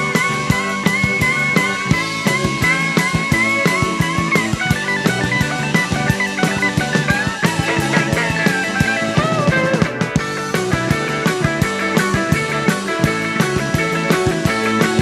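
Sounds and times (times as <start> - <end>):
drum kit beat: 0.0 - 15.0
lead guitar with bent notes: 0.0 - 15.0.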